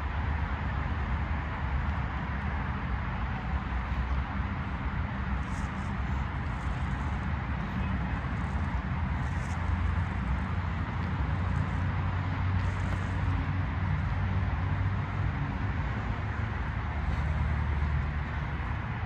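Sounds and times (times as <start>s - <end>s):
low city rumble: 0.0s - 19.0s.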